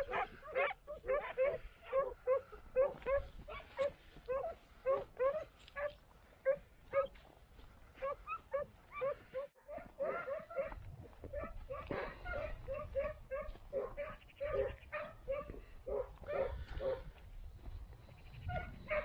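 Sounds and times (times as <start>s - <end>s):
hounds barking and yelping: 0.0s - 17.3s, 18.3s - 19.0s.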